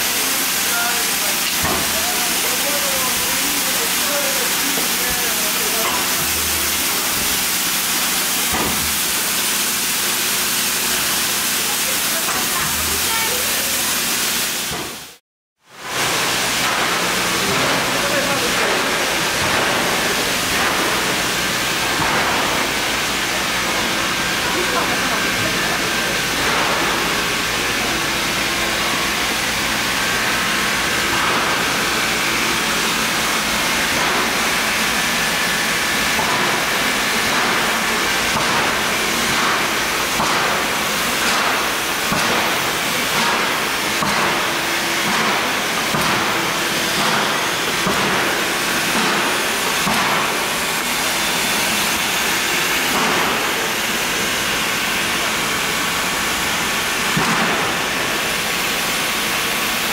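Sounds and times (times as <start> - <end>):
steam locomotive hissing: 0.0 - 15.2, 15.8 - 59.9.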